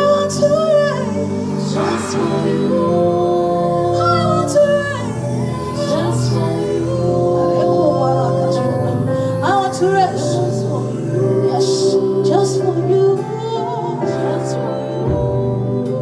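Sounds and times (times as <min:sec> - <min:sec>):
sustained instrumental accompaniment: 0:00.0 - 0:16.0
women singing worship music: 0:00.0 - 0:16.0.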